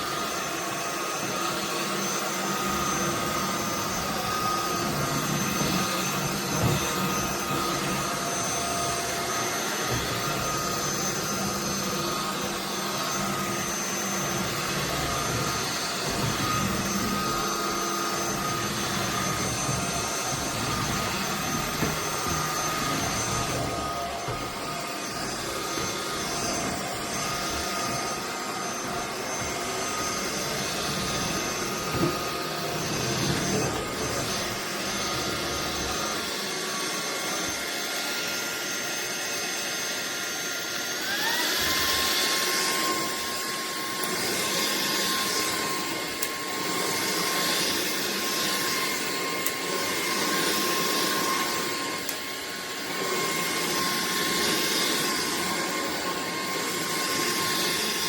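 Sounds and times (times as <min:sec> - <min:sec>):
stick vacuum running: 0:00.0 - 0:58.0.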